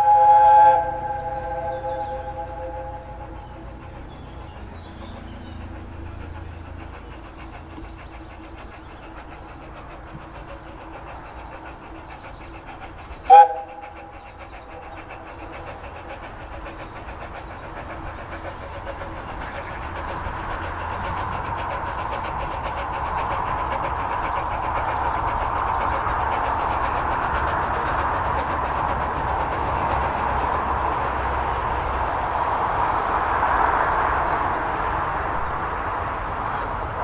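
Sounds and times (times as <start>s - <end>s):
steam locomotive running: 0.0s - 37.0s.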